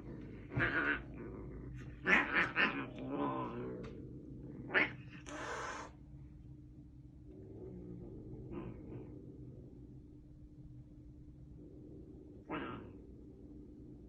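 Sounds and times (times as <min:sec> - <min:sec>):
cats fighting and crying: 0:00.0 - 0:06.0, 0:07.3 - 0:10.1, 0:11.5 - 0:14.0.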